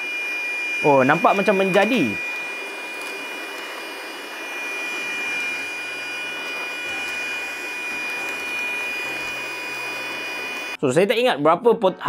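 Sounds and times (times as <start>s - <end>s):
handheld vacuum running: 0.0s - 10.8s.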